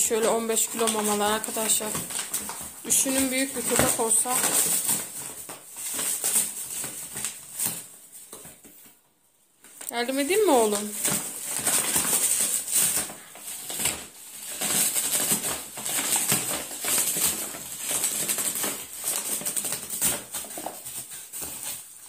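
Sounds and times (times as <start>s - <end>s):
plastic packaging crinkling: 0.0s - 8.8s, 9.6s - 22.0s.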